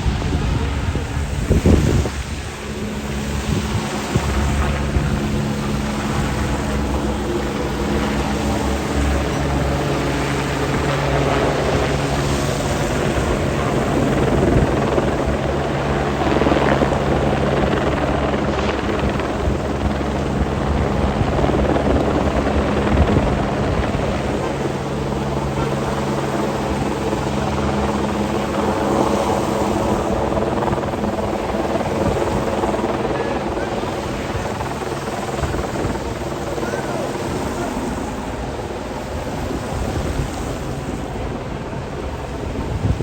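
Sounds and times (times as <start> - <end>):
helicopter hovering: 0.0 - 43.0.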